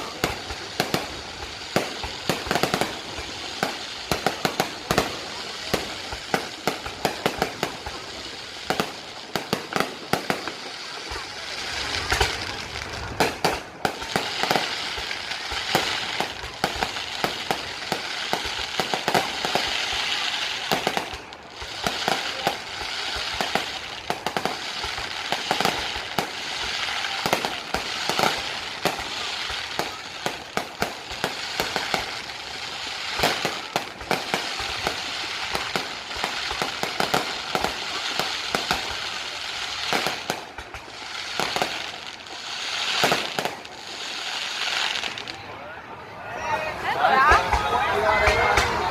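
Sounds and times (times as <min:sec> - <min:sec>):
fireworks hiss: 0:00.0 - 0:45.4
fireworks bangs and crackles: 0:00.0 - 0:46.0, 0:46.8 - 0:48.9.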